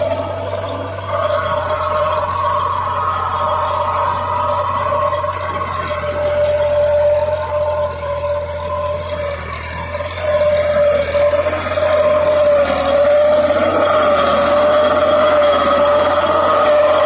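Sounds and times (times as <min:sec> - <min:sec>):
rotavator churning soil: 0:00.0 - 0:17.0
steady whine: 0:00.0 - 0:17.0
tractor diesel engine under load: 0:00.0 - 0:17.0.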